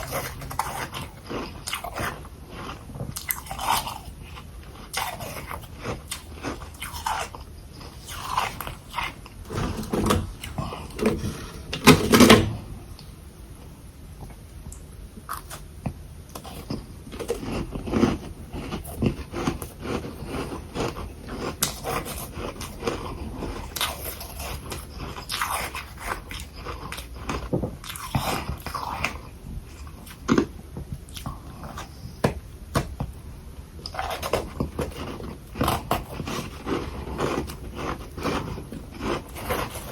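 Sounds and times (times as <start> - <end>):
chewing crunchy frost: 0.0 - 11.5, 16.3 - 32.2, 33.8 - 39.9.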